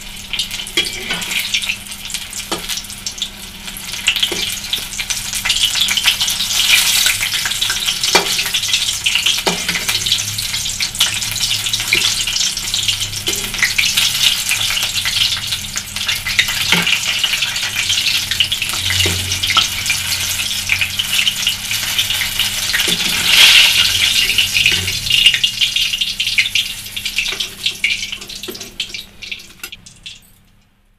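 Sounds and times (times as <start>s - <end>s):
food sizzling in hot oil: 0.0s - 30.2s.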